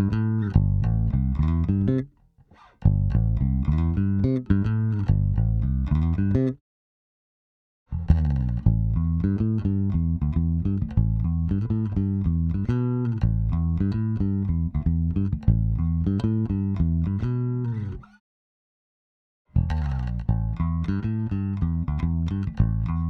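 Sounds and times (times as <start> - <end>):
plucked bass guitar line: 0.0 - 2.1, 2.8 - 6.6, 7.9 - 18.2, 19.5 - 23.0.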